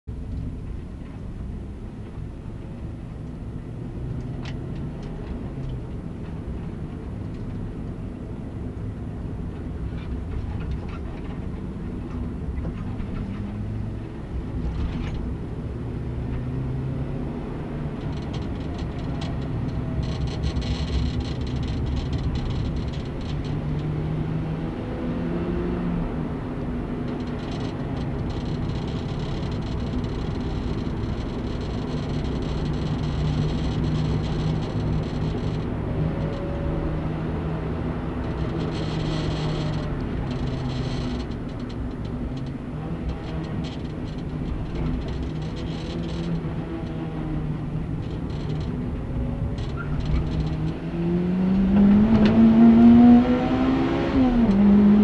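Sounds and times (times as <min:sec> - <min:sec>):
car engine accelerating: 0:02.7 - 0:55.0.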